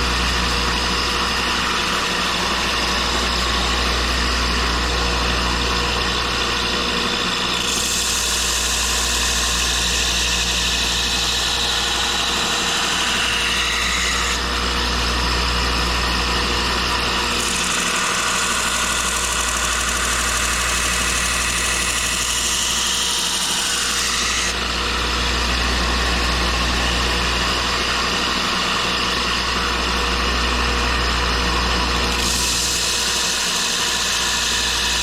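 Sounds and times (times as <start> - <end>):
belt grinder grinding steel: 0.0 - 15.9, 16.6 - 28.6, 31.9 - 35.0.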